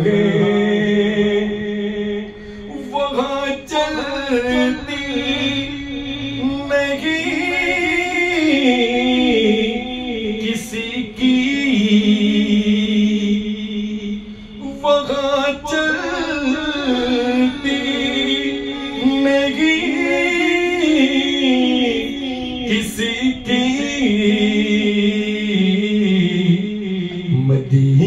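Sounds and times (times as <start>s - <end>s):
low drone: 0.0s - 28.0s
man singing devotional song: 0.0s - 28.0s.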